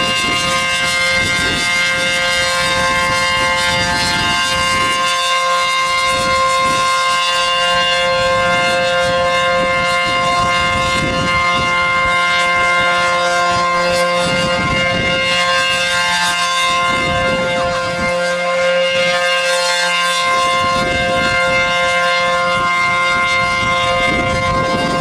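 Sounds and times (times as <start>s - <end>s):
warning siren howling: 0.0s - 25.0s
wind rumbling on microphone: 0.0s - 25.0s.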